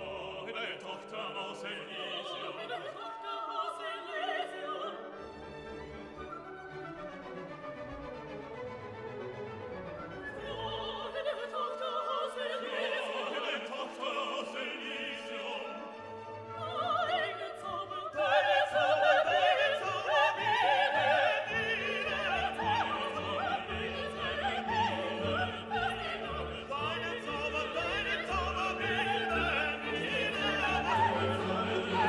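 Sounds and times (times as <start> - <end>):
operatic voice singing: 0.0 - 5.2, 10.4 - 16.0, 16.6 - 32.0
orchestral accompaniment: 4.6 - 11.5, 12.4 - 32.0.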